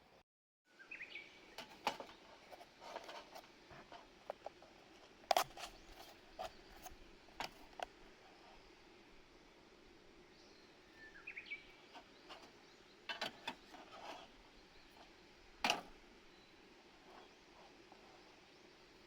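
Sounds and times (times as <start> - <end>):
faint background noise: 0.0 - 19.0.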